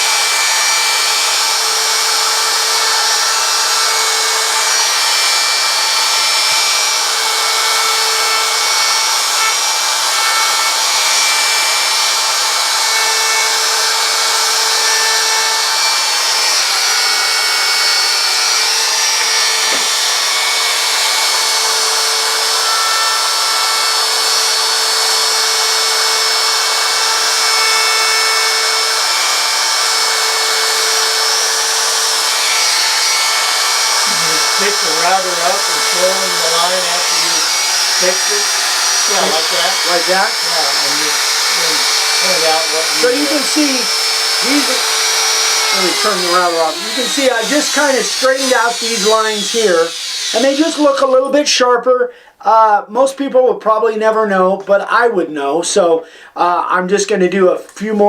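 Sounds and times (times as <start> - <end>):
router cutting wood: 0.0 - 51.4.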